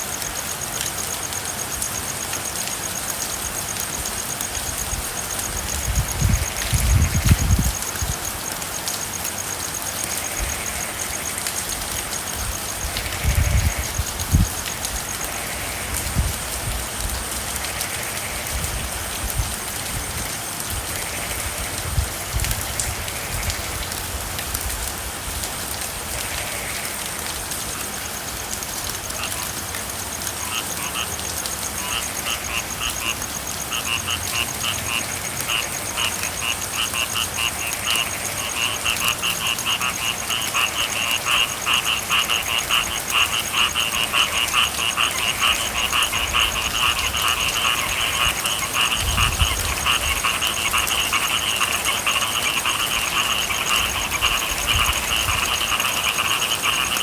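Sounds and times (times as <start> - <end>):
frogs trilling: 0.0 - 24.6, 25.7 - 57.0
steady rain hiss: 0.0 - 57.0.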